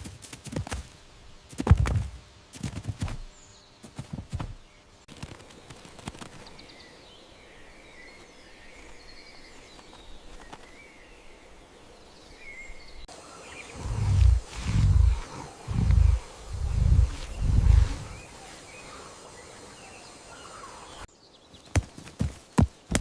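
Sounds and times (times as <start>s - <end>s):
steady background hiss: 0.0s - 23.0s
small birds chirping: 2.6s - 23.0s.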